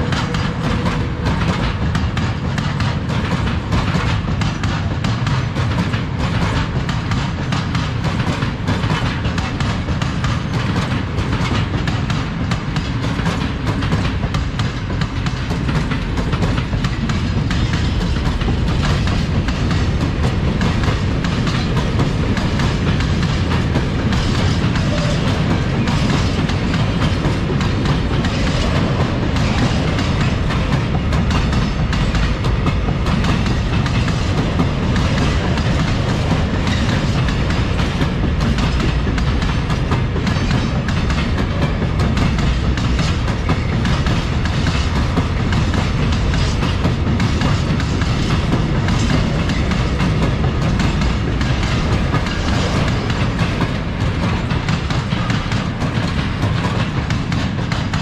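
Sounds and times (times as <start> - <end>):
clatter over the track: 0.0 - 58.0
freight train wheels on rails: 0.0 - 58.0.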